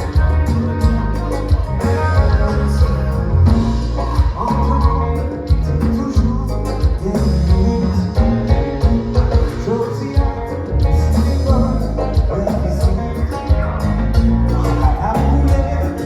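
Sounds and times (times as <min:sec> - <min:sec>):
heavy bass: 0:00.0 - 0:16.0
live band playing: 0:00.0 - 0:16.0
person singing: 0:00.0 - 0:16.0
steady drum beat: 0:00.0 - 0:16.0.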